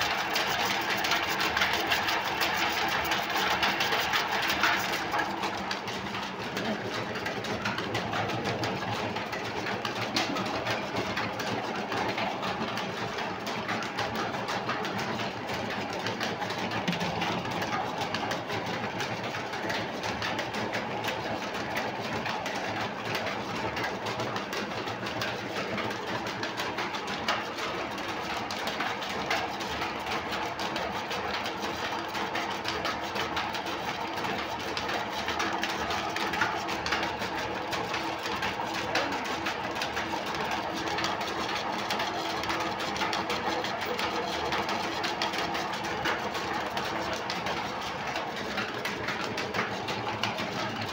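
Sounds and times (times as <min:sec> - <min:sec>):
oil expeller mechanical rattle: 0:00.0 - 0:20.9, 0:21.8 - 0:50.9.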